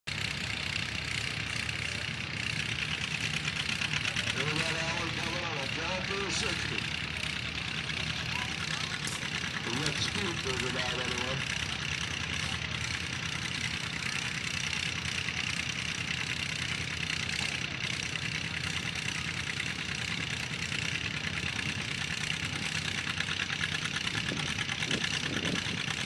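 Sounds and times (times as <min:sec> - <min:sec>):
tractor engine under load: 0:00.1 - 0:26.0.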